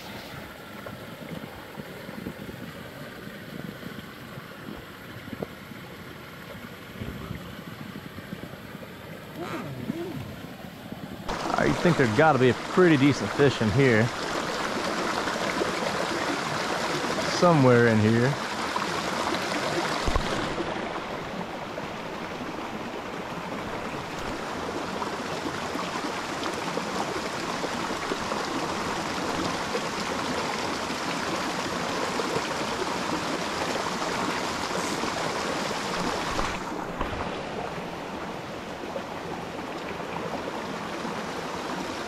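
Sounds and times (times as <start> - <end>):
creek water rushing: 0.0 - 42.0.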